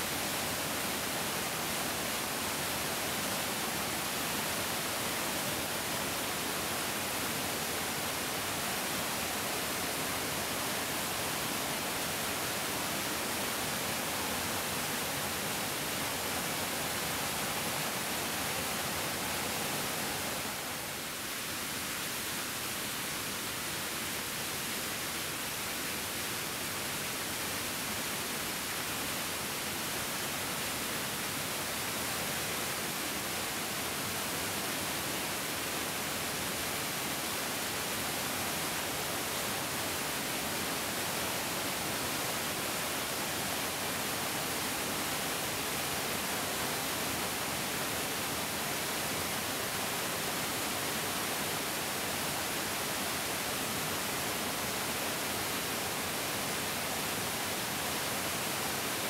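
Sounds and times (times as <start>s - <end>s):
stream rushing water: 0.0s - 59.0s.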